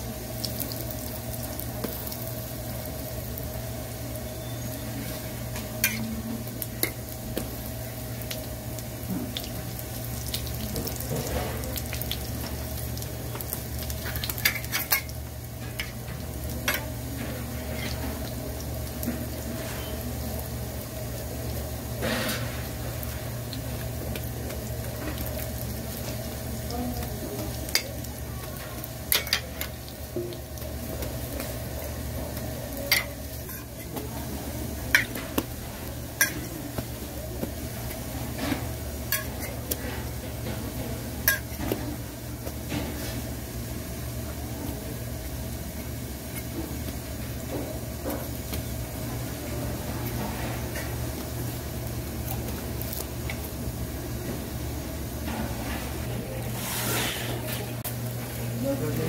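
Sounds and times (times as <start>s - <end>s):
pancakes sizzling in oil: 0.0s - 59.0s.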